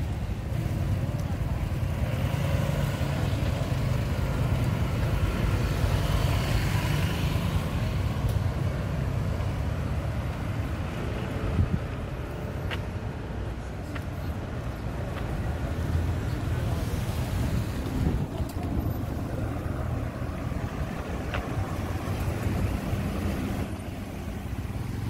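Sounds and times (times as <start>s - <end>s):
road traffic rumbling: 0.0s - 25.0s.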